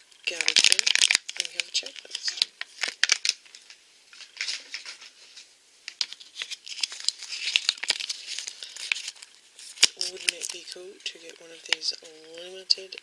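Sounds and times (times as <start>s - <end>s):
paper rustling and crinkling: 0.2s - 13.0s.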